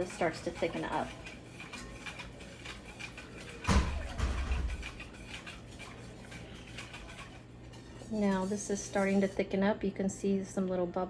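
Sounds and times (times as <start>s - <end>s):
whisk scraping in a pot: 0.0s - 9.7s.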